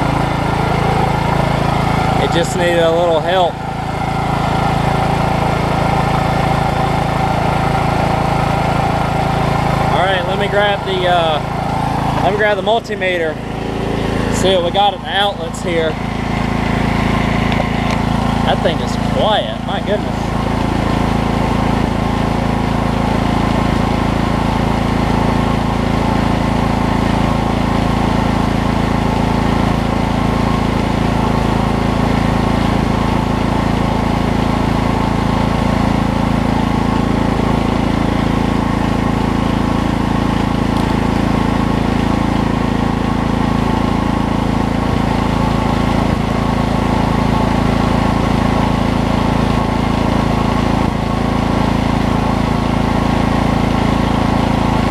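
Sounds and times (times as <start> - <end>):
generator engine running: 0.0 - 54.9.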